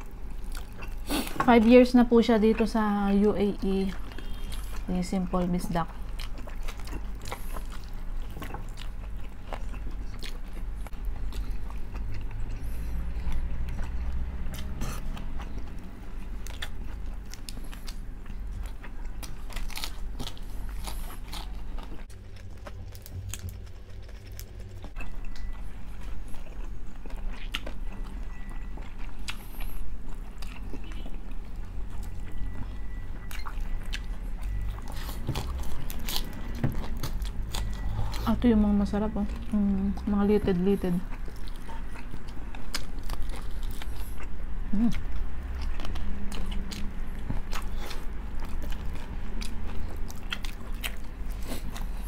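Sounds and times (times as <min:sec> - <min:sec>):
chewing and crunchy biting: 0:00.0 - 0:01.4, 0:02.3 - 0:38.4, 0:39.2 - 0:52.0
steady low hum: 0:00.0 - 0:52.0.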